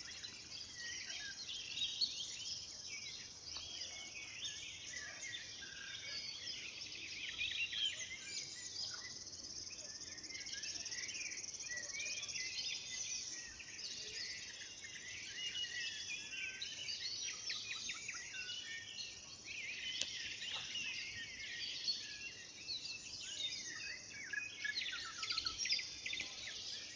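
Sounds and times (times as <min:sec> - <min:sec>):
songbirds singing chorus: 0:00.0 - 0:26.9.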